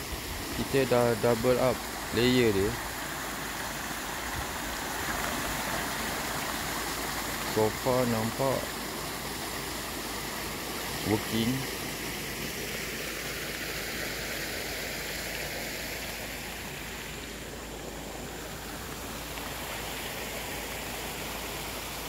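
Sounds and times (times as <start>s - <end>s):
water flowing over tarpaulin: 0.0s - 22.0s.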